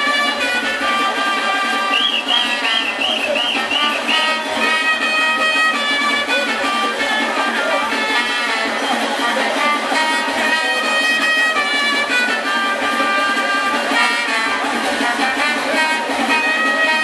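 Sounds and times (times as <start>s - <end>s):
brass section playing melody: 0.0s - 17.0s
steady low drum beat: 0.0s - 17.0s.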